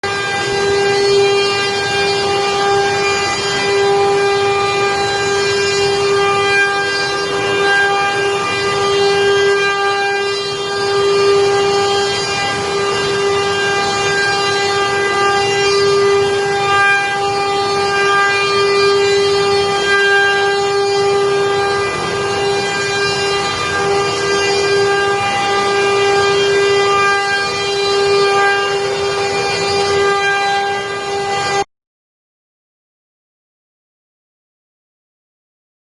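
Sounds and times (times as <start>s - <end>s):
spindle whine: 0.0s - 31.6s.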